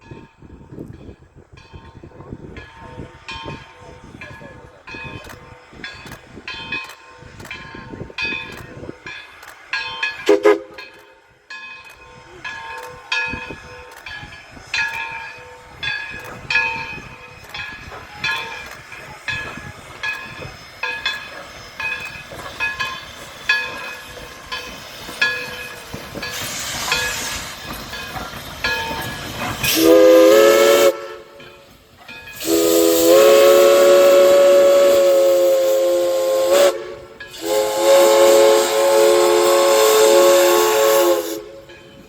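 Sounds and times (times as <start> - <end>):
steam locomotive chime whistle: 0.0 - 42.0
steam hissing: 2.3 - 42.0.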